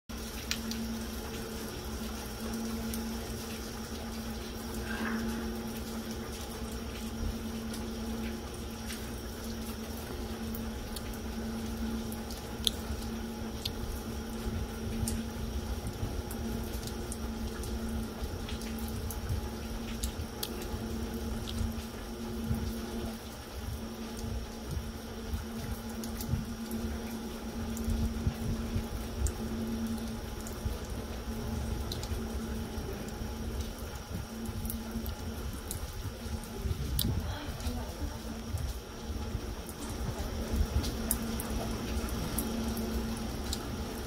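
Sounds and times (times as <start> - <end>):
light rain on wet pavement: 0.1 - 44.0
low hum: 0.1 - 44.0
water dripping: 0.1 - 44.0.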